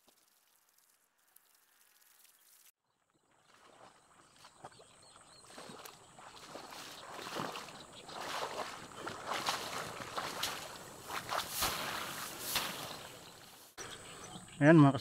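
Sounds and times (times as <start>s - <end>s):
footsteps wading through water: 0.0s - 13.8s.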